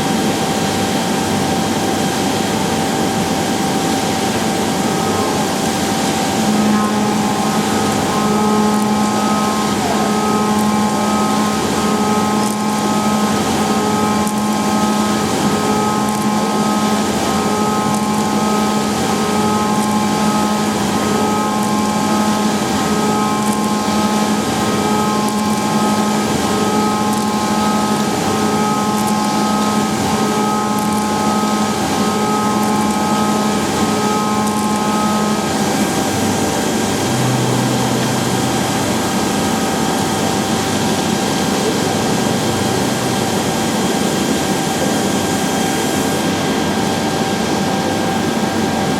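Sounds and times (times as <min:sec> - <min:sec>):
machining centre whirring: 0:00.0 - 0:48.9.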